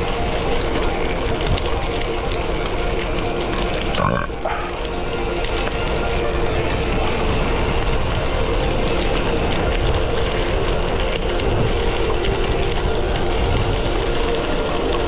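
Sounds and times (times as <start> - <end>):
bike tyres crunching on gravel: 0.0 - 15.0
wind noise on microphone: 0.0 - 15.0.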